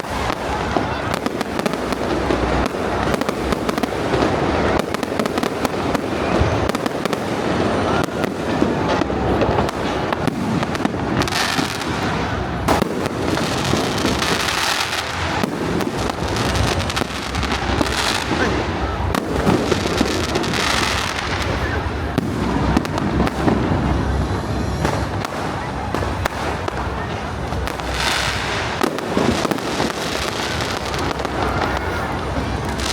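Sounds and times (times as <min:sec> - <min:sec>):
fireworks bangs: 0:00.0 - 0:32.9
fireworks crackling hiss: 0:00.0 - 0:32.9.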